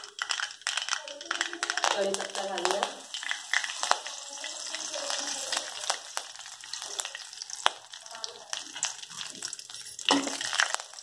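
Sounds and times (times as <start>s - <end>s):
seeds popping: 0.0s - 11.0s
seeds sizzling in hot oil: 0.0s - 11.0s.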